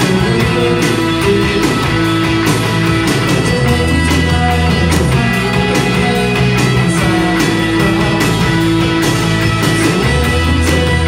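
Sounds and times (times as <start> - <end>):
drum kit: 0.0 - 11.0
electric guitars: 0.0 - 11.0
live rock band: 0.0 - 11.0
low bass notes: 0.0 - 11.0.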